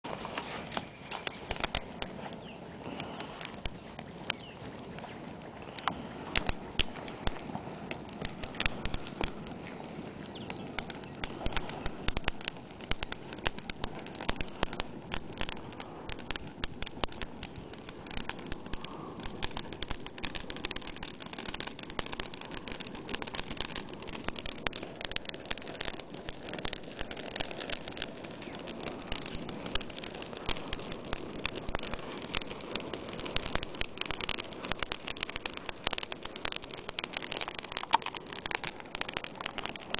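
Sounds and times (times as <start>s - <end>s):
bonfire crackling and popping: 0.0s - 39.9s
rush of flame: 0.0s - 39.9s.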